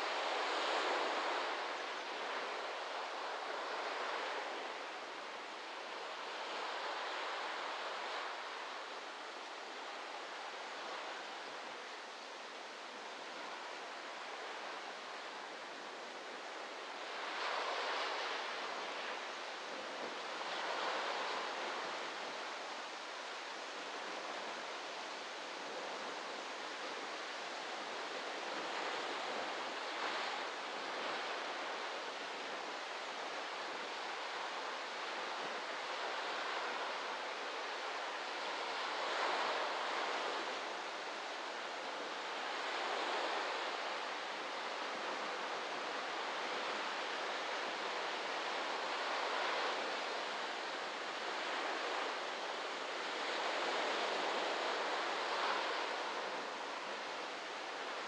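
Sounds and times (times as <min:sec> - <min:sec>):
small waves breaking on beach: 0:00.0 - 0:58.0.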